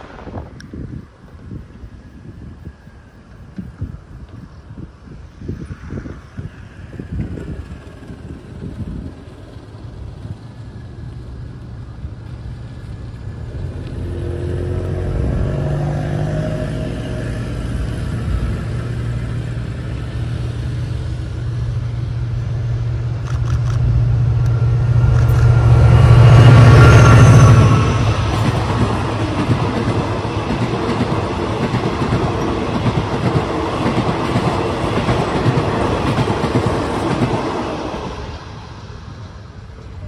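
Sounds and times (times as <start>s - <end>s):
locomotive engine drone: 0.0s - 40.0s.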